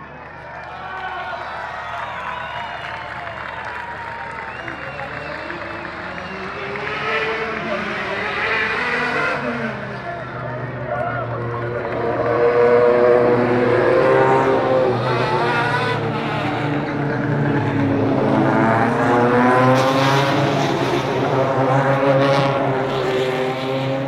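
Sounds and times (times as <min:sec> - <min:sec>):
racing cars driving past: 0:03.6 - 0:24.0.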